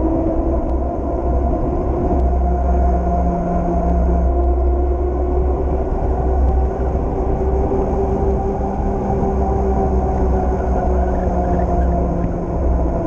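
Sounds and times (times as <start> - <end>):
bicycle tyres humming on asphalt: 0.0 - 13.0
wind buffeting microphone: 0.0 - 13.0.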